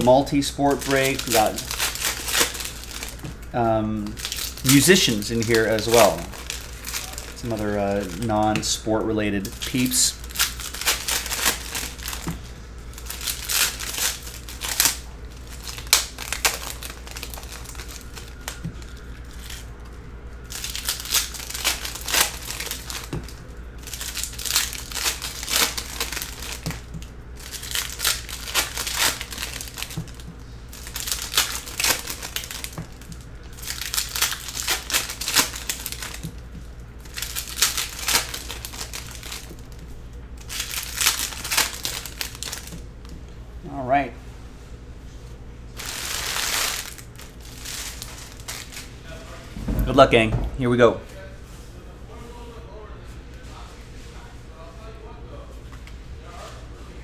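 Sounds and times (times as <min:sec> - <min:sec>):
foil wrappers crinkling and tearing: 0:00.0 - 0:43.1, 0:45.8 - 0:49.2.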